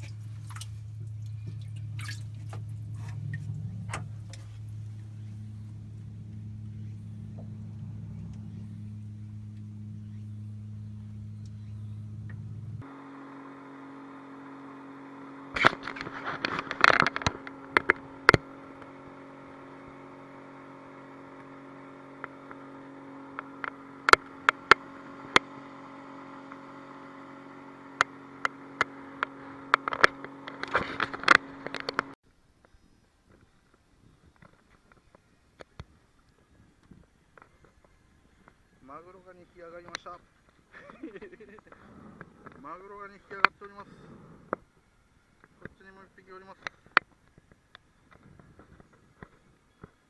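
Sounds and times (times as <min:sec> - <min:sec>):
boat engine running: 0:00.0 - 0:32.2, 0:34.3 - 0:50.0.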